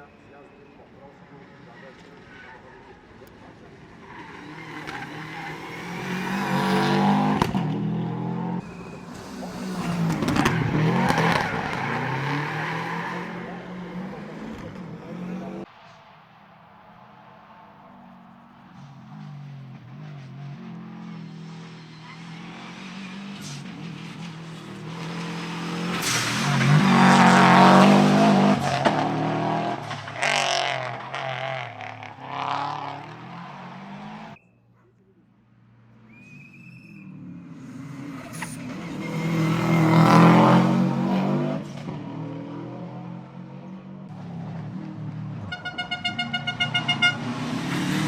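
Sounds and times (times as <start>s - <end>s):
rally car engine at full throttle: 1.2s - 34.4s, 35.6s - 48.0s.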